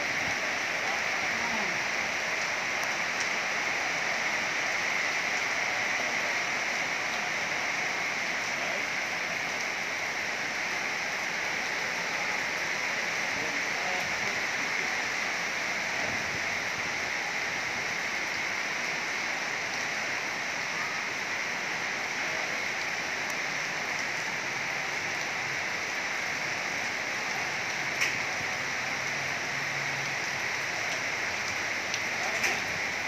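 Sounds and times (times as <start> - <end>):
heavy rain on wet pavement: 0.0 - 33.0.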